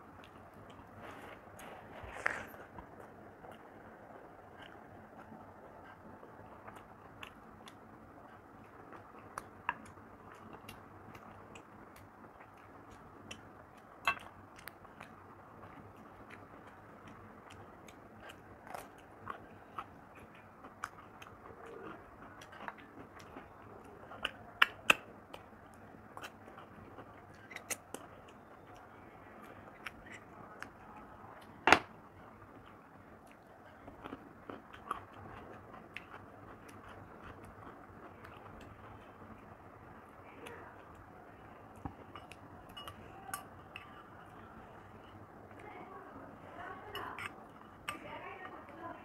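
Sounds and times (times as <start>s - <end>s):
chewing and mouth sounds: 0.1s - 31.6s, 32.2s - 48.8s.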